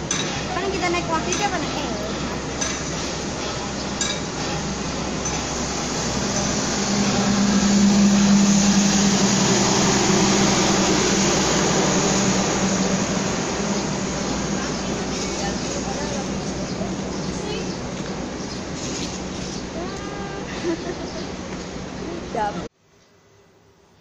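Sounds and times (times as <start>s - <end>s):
train wheels rumbling on rails: 0.0s - 22.6s.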